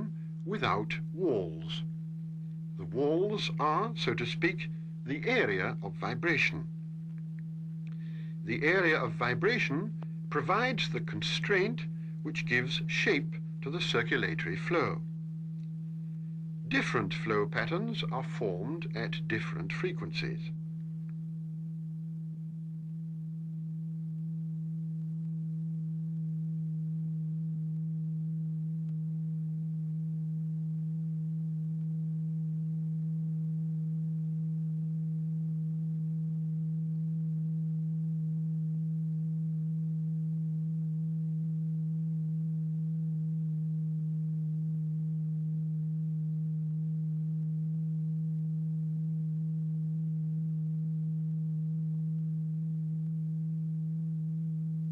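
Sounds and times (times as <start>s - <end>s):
steady low pure tone: 0.0s - 54.9s.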